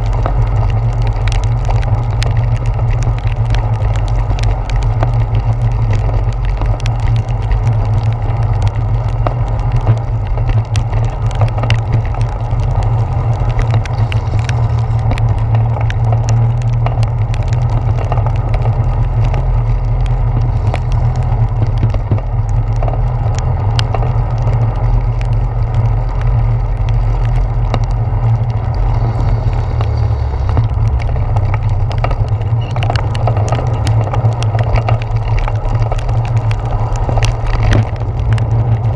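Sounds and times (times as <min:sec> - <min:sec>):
bicycle ride rumble: 0:00.0 - 0:38.9
raindrops ticking on housing: 0:00.0 - 0:38.9.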